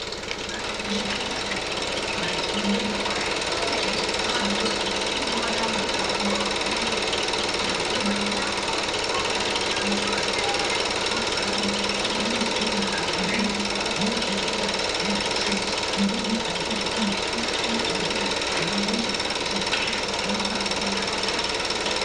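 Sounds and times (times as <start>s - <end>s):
film projector clattering: 0.0s - 22.0s.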